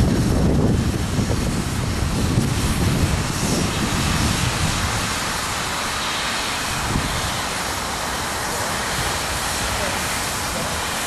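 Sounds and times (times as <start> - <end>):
steady hiss of steam: 0.0 - 11.0
steam locomotive moving off: 0.0 - 11.0.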